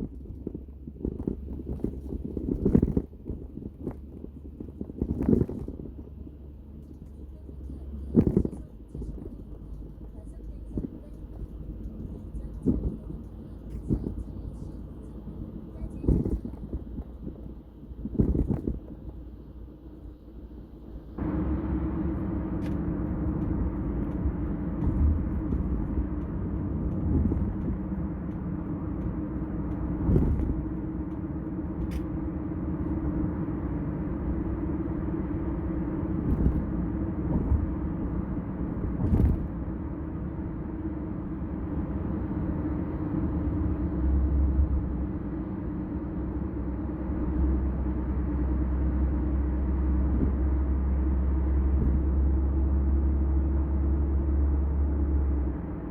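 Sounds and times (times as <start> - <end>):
road and tyre rumble in car: 0.0 - 55.9.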